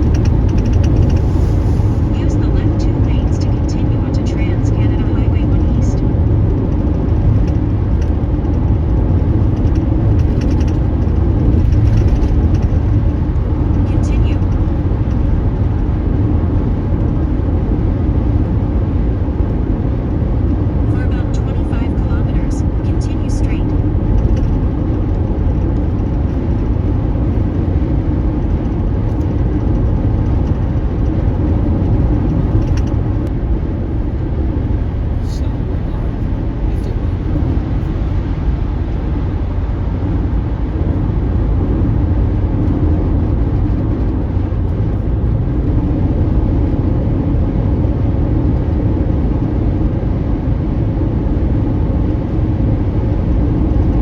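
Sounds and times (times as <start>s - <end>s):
car tyres and engine rumbling: 0.0s - 54.0s.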